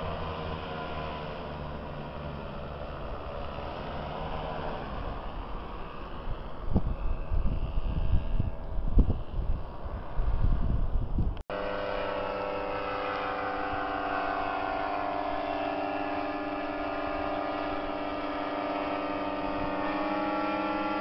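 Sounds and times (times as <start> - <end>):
engine droning steadily: 0.0 - 21.0
wind buffeting microphone: 0.0 - 21.0.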